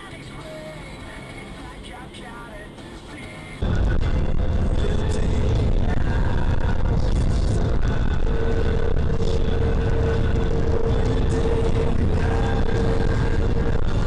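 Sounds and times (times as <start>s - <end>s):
car engine and road rumble: 0.0s - 14.0s
faint steady whine: 0.0s - 14.0s.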